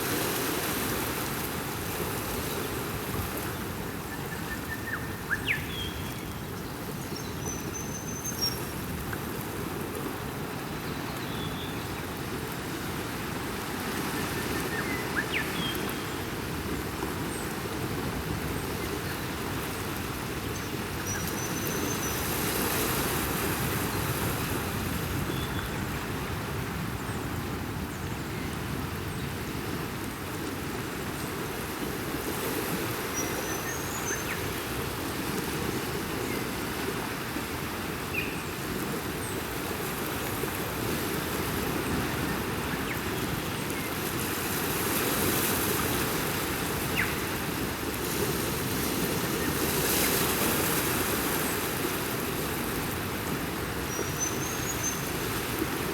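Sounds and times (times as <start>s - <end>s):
ocean surf washing: 0.0s - 7.0s, 11.8s - 55.9s.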